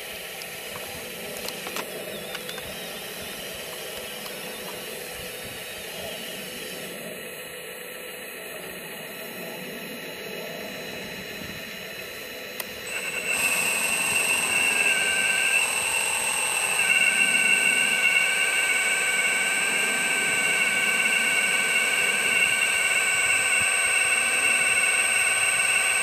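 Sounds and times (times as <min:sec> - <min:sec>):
model excavator motors whining: 0:00.0 - 0:26.0.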